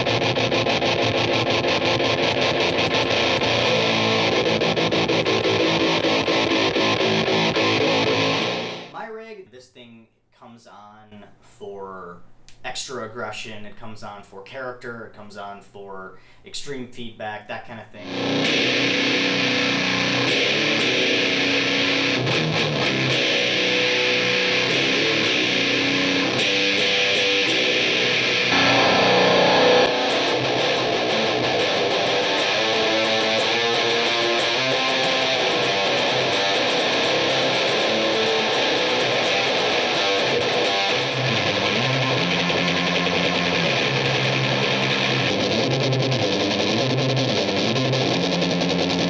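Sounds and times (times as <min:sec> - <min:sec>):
distorted electric guitar riff: 0:00.0 - 0:09.0, 0:18.0 - 0:49.0.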